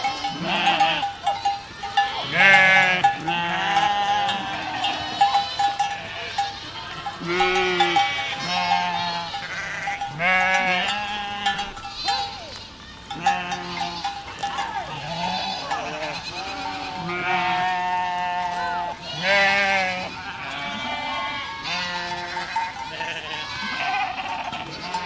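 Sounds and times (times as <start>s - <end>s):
goats bleating: 0.0s - 25.0s.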